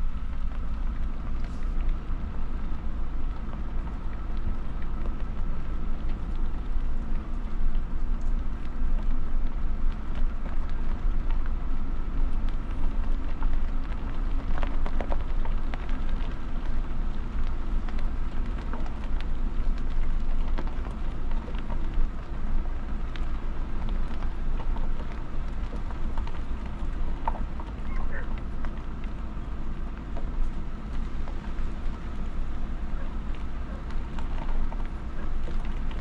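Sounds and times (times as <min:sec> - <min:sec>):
small ticks and crackles: 0:00.0 - 0:36.0.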